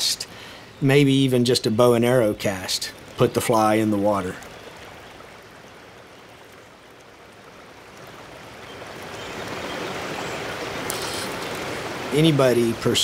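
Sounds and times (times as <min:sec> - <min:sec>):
stream flowing over rocks: 0:01.1 - 0:13.0.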